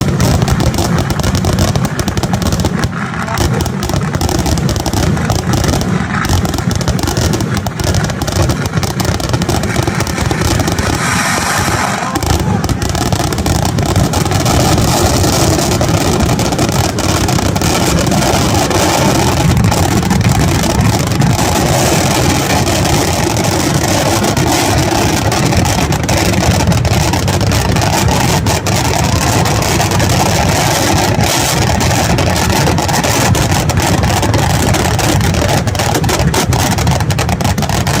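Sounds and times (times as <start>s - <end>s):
firecrackers exploding rapidly: 0.0s - 38.0s.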